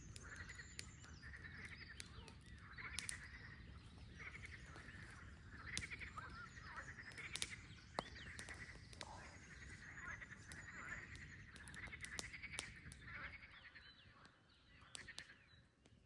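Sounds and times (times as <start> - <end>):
sharp crackles: 0.0 - 13.5, 14.8 - 16.0
frogs trilling: 0.0 - 15.4.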